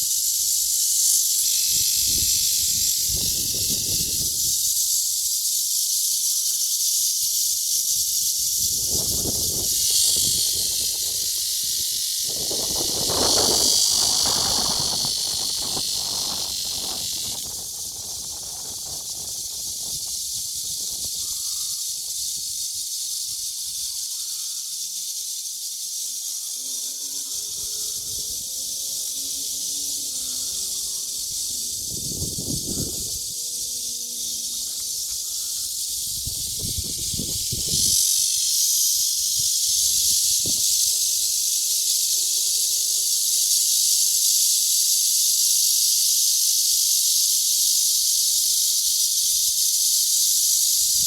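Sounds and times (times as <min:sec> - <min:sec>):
cicadas buzzing shrilly: 0:00.0 - 0:51.0.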